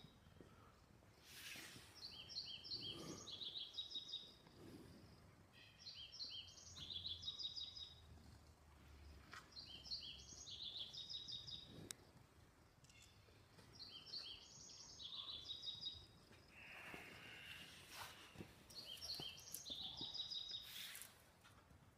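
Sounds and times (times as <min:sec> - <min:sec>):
songbird chirping: 0:00.0 - 0:21.2.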